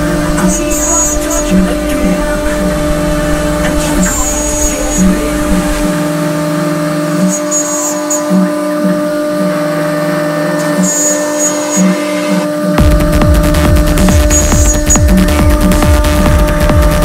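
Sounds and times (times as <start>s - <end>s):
high-pitched metal cutting: 0.0s - 17.0s
router spindle whine: 0.0s - 17.0s
vacuum hose: 0.0s - 17.0s.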